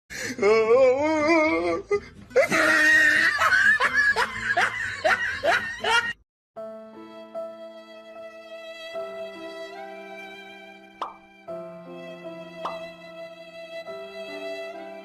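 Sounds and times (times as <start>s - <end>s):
music: 0.2s - 15.0s.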